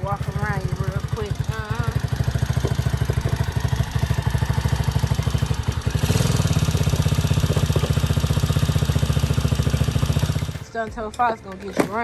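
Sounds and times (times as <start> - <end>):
small atv engine idling: 0.0 - 10.8.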